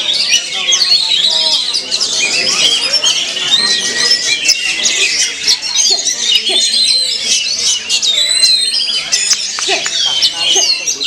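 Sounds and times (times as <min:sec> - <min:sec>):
magpie-robin singing: 0:00.0 - 0:11.0
other birds singing: 0:00.0 - 0:11.0.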